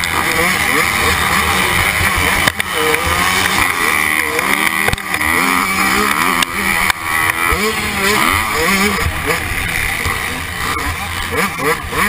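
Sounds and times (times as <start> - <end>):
motocross engine revving: 0.0 - 12.0.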